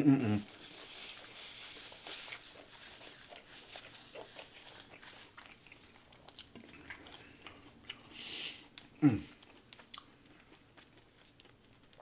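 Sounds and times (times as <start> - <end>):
quiet chewing of food: 0.4 - 12.0.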